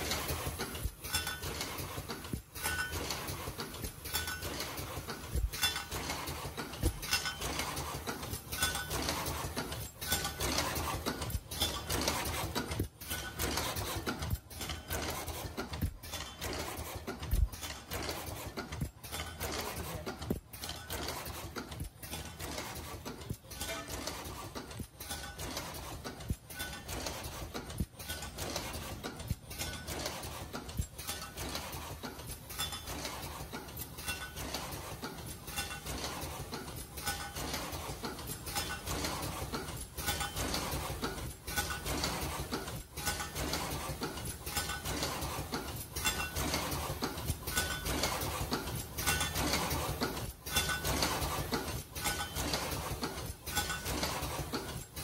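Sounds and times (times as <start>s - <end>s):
machine mechanical clatter: 0.0s - 55.0s.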